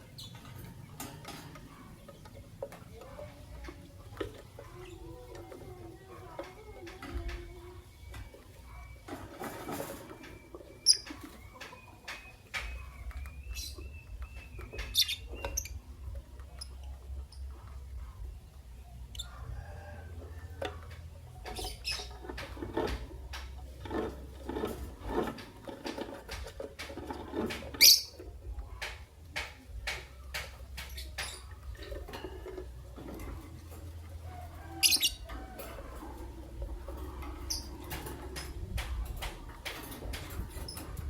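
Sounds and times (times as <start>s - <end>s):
lovebirds chattering: 0.0s - 41.0s.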